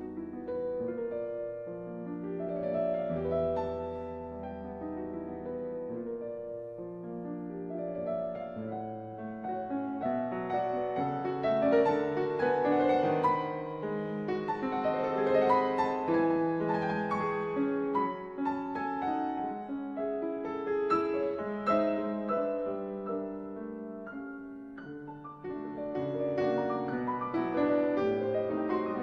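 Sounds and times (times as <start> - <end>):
slow piano music: 0.0 - 29.0.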